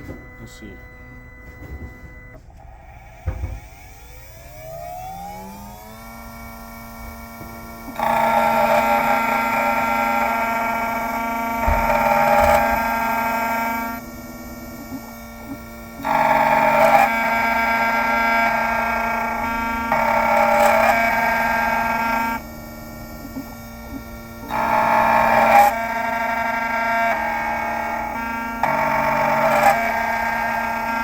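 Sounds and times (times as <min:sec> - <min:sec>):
key-cutting cutter whining: 0:00.0 - 0:31.0
motor humming: 0:00.0 - 0:31.0.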